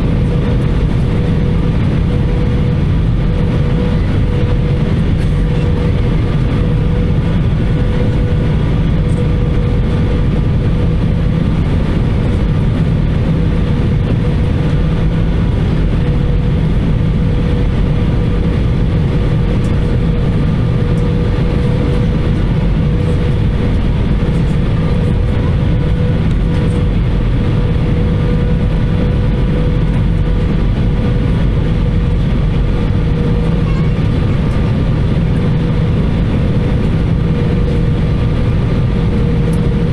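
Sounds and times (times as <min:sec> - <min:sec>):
aircraft engines and airflow rumble: 0:00.0 - 0:39.9.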